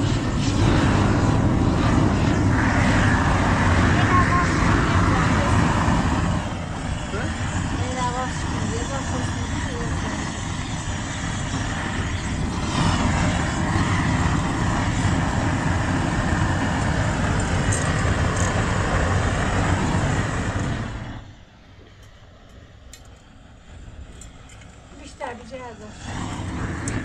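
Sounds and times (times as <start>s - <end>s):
gas torch roaring: 0.0s - 27.0s.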